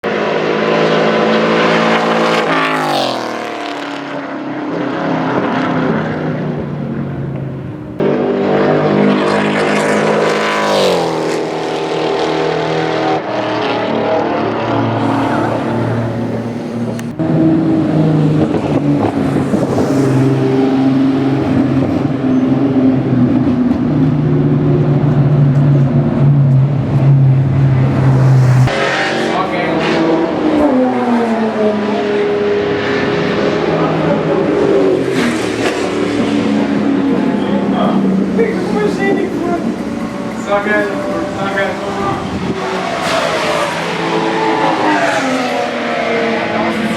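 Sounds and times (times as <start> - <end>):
race car engine at high revs: 0.0 - 46.9.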